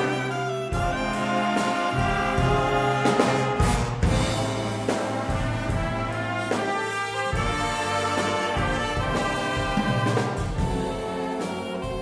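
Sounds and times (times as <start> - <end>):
big band horns playing chords: 0.0 - 12.0
drum kit and cymbal accents: 0.0 - 12.0.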